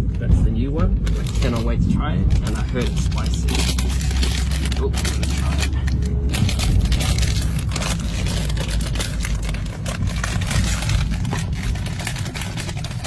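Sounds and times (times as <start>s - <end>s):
low car rumble: 0.0s - 13.0s
crisp packet crinkling: 1.0s - 13.0s.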